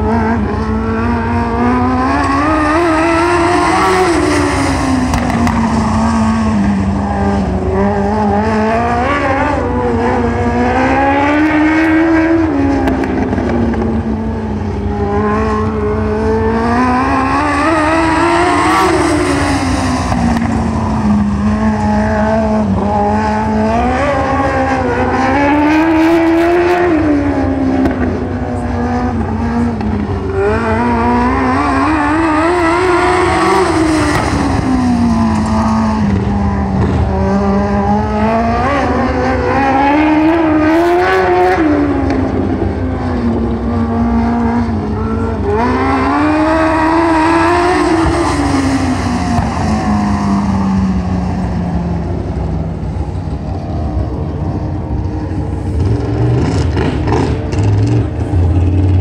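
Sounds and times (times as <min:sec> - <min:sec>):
motorcycle engine racing laps: 0:00.0 - 0:59.0.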